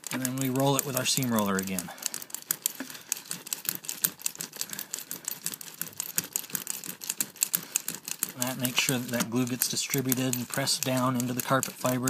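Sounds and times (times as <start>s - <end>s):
seam roller wheels clicking: 0.0s - 12.0s.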